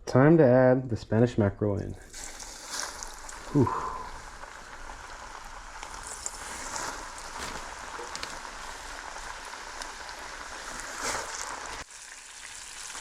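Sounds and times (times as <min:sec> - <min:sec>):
fish deep-frying in oil: 0:02.0 - 0:13.0
oil crackling and popping: 0:02.0 - 0:13.0.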